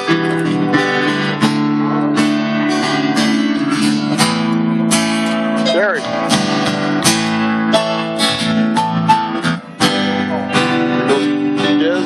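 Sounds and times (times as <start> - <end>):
live band music: 0.0 - 12.0
strummed guitar chords: 0.0 - 12.0.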